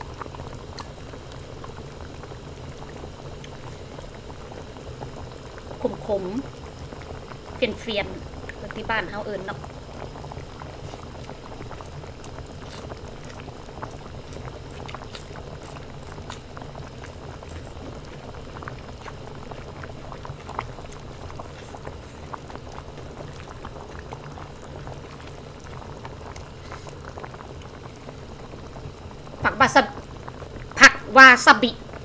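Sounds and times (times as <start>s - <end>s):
broth bubbling in a pot: 0.0s - 32.0s.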